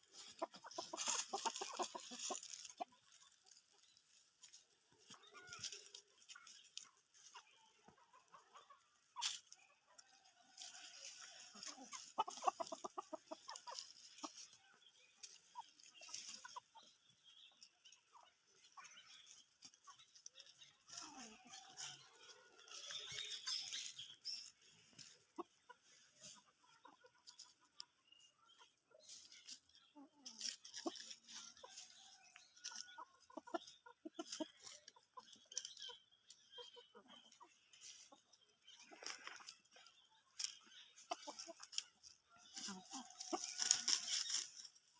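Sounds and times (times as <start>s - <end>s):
chicken clucking: 0.0s - 44.9s.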